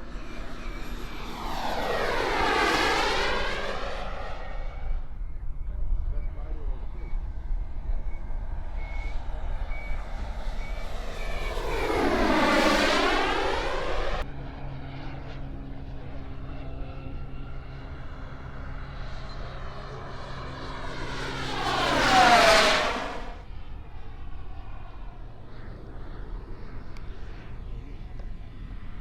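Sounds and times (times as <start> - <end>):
model jet turbine whine: 0.0 - 29.0.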